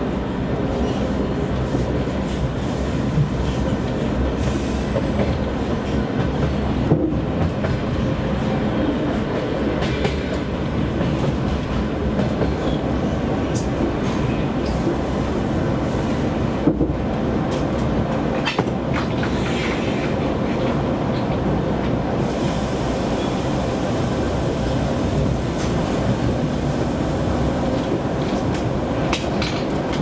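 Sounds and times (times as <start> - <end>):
train wheels rumbling on rails: 0.0 - 30.0
rail joint clicks: 3.1 - 12.8, 13.4 - 15.1, 16.1 - 30.0.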